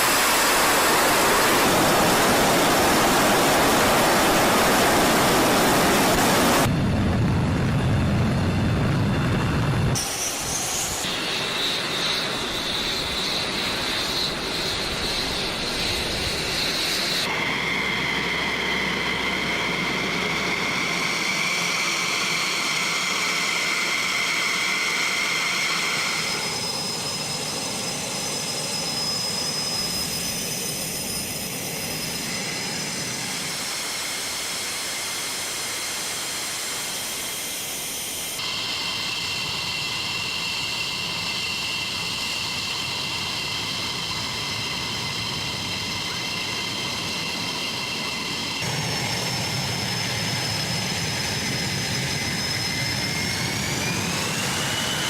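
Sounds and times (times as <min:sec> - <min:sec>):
jet engine rumble: 0:00.0 - 0:55.0
jet engine turbine whine: 0:00.0 - 0:55.0.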